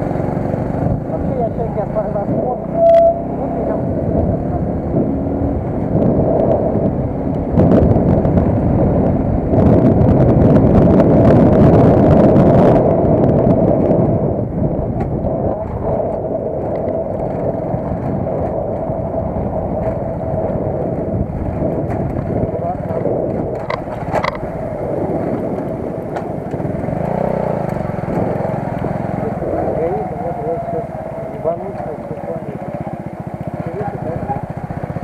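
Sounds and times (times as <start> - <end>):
road and wind noise: 0.0 - 35.0
vehicle hum: 0.0 - 35.0.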